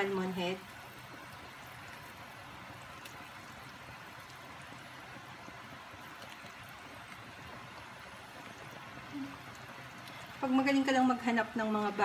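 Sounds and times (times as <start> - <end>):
broth boiling: 0.0 - 12.0.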